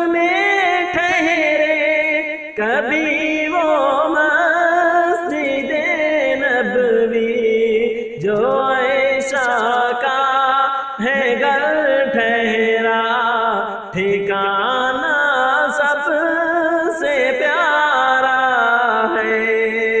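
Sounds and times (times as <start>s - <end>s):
voices singing devotional song: 0.0s - 20.0s.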